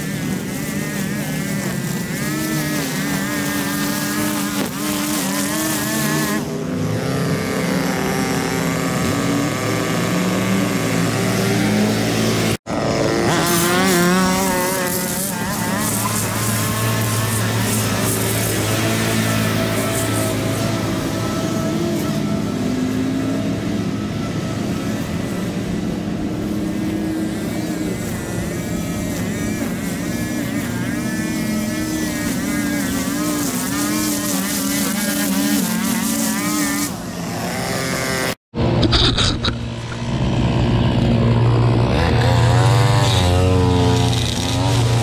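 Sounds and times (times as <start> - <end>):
string trimmer engine running: 0.0 - 45.0.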